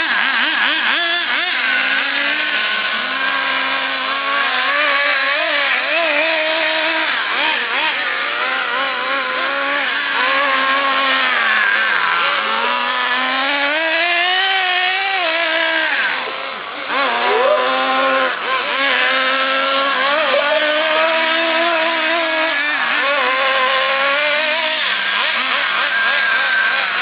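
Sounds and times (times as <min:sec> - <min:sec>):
remote control cars racing: 0:00.0 - 0:27.0.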